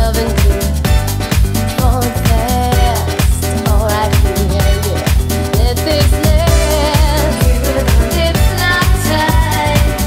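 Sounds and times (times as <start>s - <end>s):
disco dance music: 0.0s - 10.0s
pounding kick drum: 0.0s - 10.0s.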